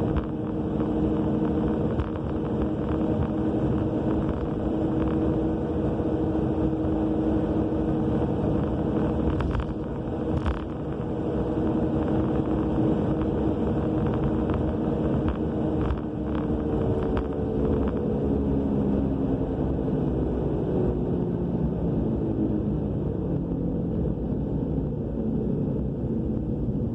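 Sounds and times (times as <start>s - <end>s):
car interior road roar: 0.0s - 26.9s
humming drone from rear: 0.0s - 26.9s.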